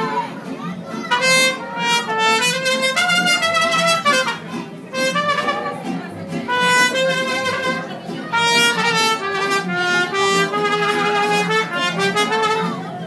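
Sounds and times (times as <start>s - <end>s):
mariachi band playing: 0.0s - 13.0s
trumpets playing melody: 1.1s - 12.8s.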